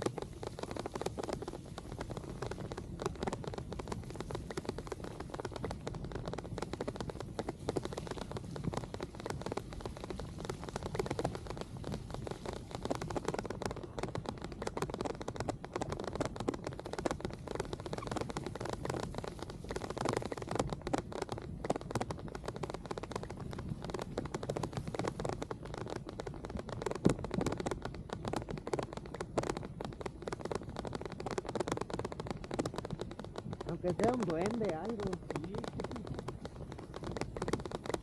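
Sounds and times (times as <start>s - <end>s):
rain pattering on microphone: 0.0s - 38.0s.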